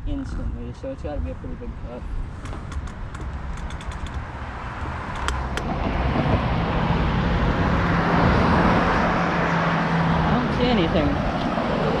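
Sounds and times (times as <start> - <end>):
steady low rumble: 0.0 - 12.0
motor vehicle approaching: 1.9 - 12.0.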